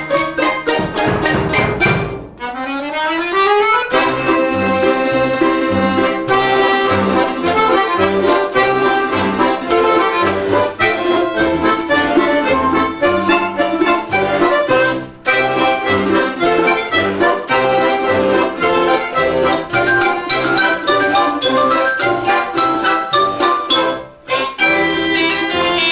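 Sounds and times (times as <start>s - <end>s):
accordion folk ensemble: 0.0s - 25.9s.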